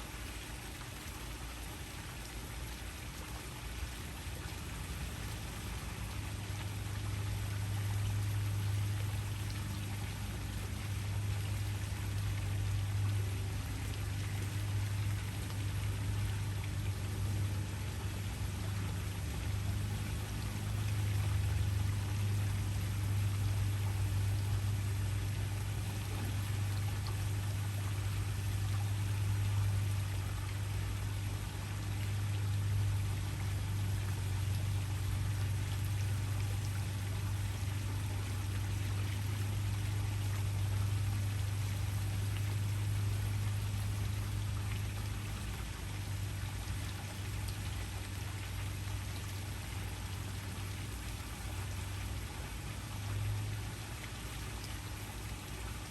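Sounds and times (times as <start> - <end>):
deep constant rumble: 2.2 - 55.9.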